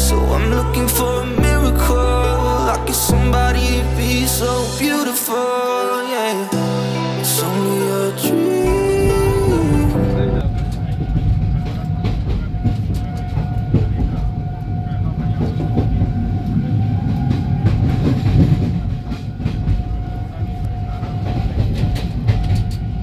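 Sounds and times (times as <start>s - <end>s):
train coach rumbling: 0.0s - 23.0s.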